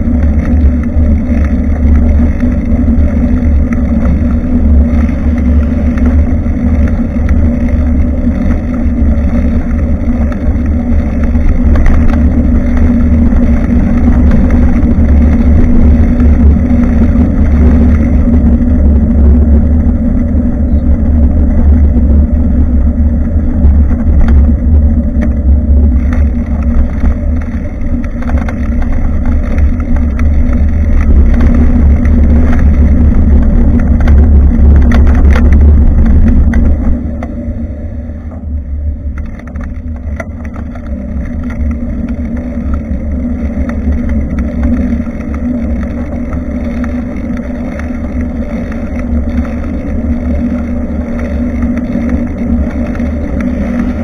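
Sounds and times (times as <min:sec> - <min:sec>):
road and tyre noise: 0:00.0 - 0:54.0
wind noise on microphone: 0:00.0 - 0:54.0.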